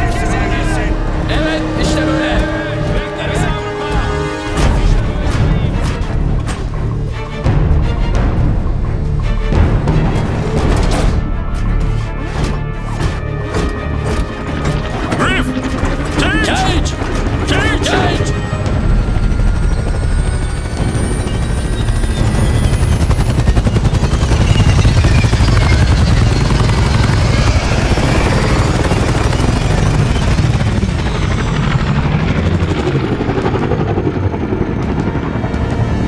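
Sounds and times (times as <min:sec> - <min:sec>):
rotor aircraft rumble: 0:00.0 - 0:36.0.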